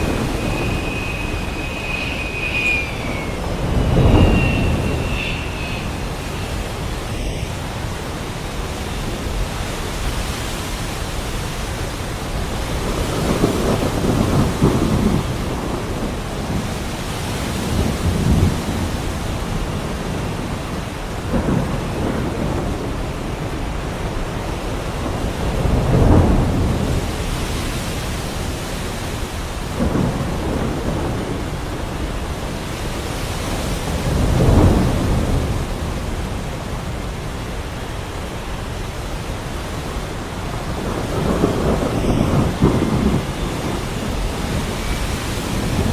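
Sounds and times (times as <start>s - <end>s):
thunder rolling: 0.0s - 27.5s, 28.2s - 45.9s
heavy rain falling: 0.0s - 45.9s.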